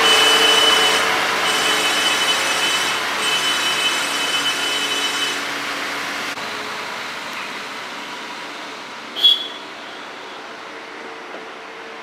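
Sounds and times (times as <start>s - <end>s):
lorry engine and tyres rumbling: 0.0s - 12.0s.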